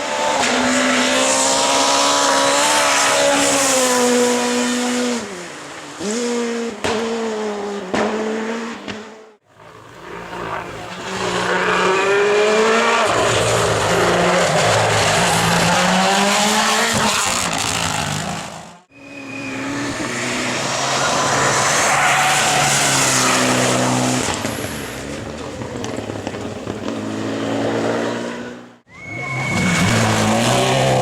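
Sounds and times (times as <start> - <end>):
rally car engine revving: 0.0 - 28.8, 29.4 - 31.0.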